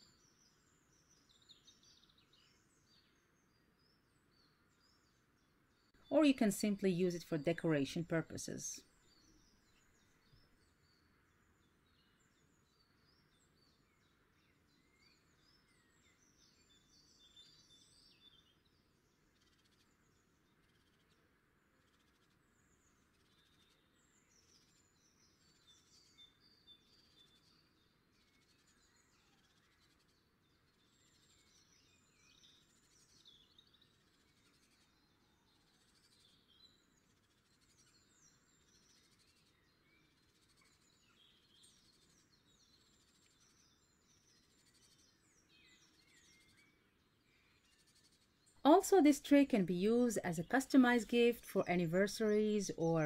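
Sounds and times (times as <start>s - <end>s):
faint bird chirps: 0.0s - 53.0s.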